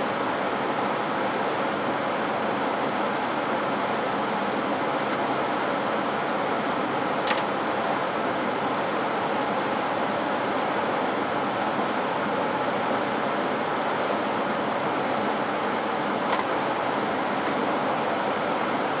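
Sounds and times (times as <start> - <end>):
blower fan rushing hum: 0.0 - 19.0.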